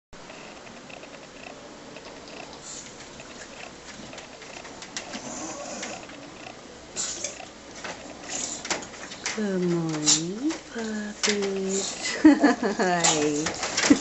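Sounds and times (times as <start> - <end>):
puppies snoring: 0.3 - 14.0.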